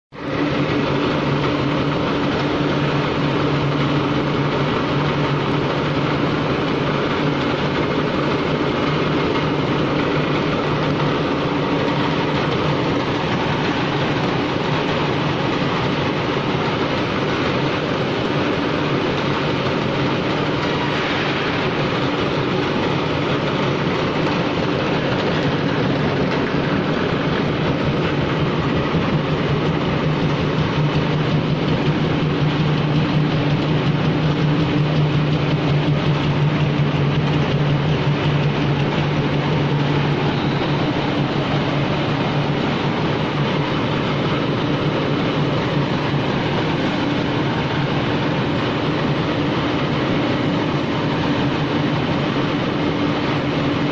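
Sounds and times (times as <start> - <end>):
jaw crusher rumbling: 0.2 - 52.5.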